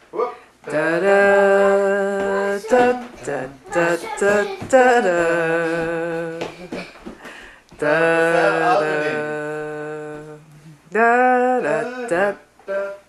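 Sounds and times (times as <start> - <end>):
person singing a cappella: 0.6 - 6.9, 7.7 - 13.0.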